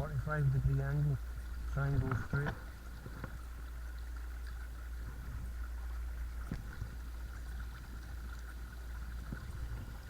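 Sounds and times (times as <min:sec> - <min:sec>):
water noise: 0:00.0 - 0:10.0.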